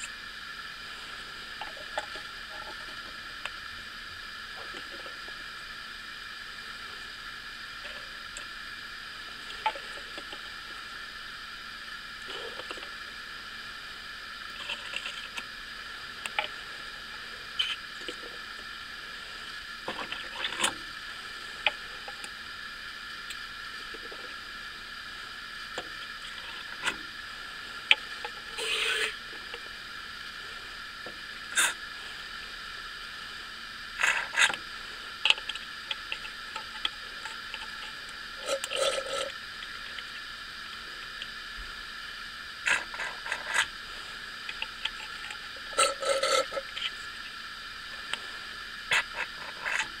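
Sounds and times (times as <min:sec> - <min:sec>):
steady background hiss: 0:00.0 - 0:50.0
syringe clicks: 0:00.0 - 0:50.0.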